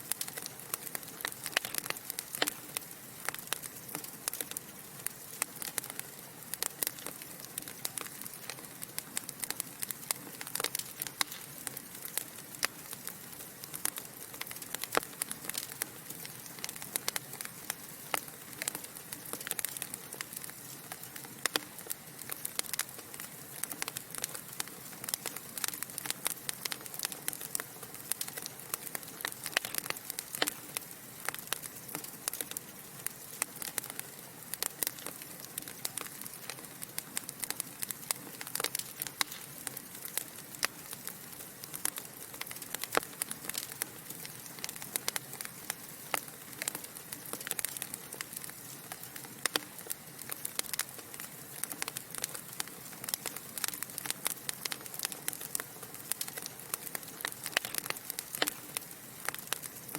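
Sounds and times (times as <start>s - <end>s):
fire hissing softly: 0.0s - 59.9s
logs crackling and popping: 0.0s - 59.9s.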